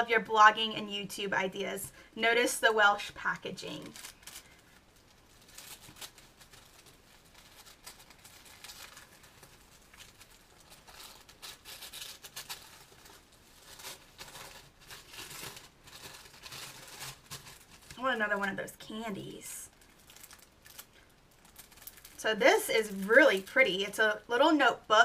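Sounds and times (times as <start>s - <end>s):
wrapping paper crinkling and tearing: 2.8s - 24.9s.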